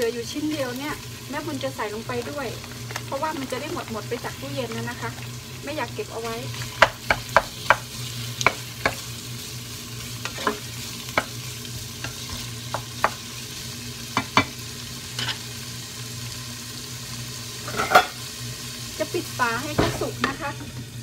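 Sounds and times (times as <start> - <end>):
meat and onions sizzling in a pot: 0.0 - 21.0.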